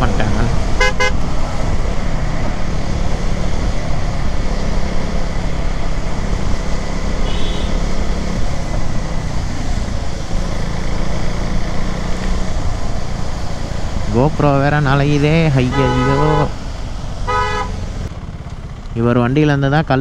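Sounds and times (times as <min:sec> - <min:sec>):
motorcycle engine running: 0:00.0 - 0:20.0
traffic: 0:00.0 - 0:20.0.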